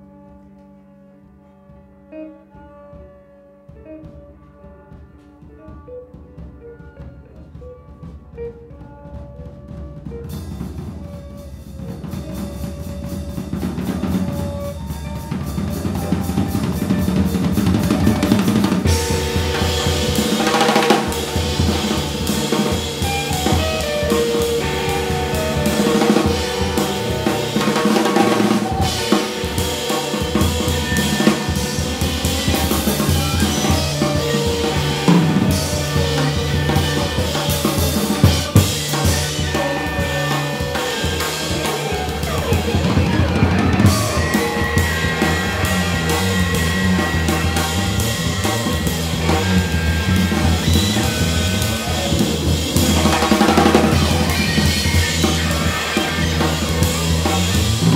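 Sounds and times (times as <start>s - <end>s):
drum kit: 0.0s - 57.9s
jazz trio playing: 0.0s - 57.9s.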